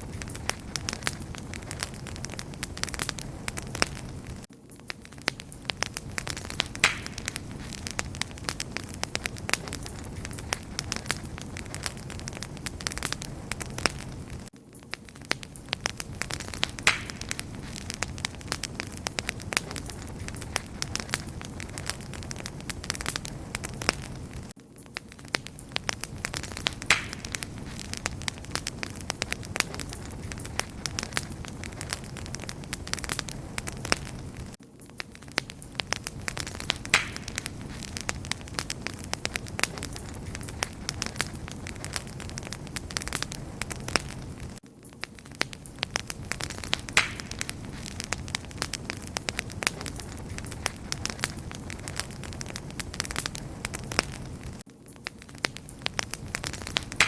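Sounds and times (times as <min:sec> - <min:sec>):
low rumble of flame: 0:00.0 - 0:57.0
wood fire crackling: 0:00.0 - 0:57.0.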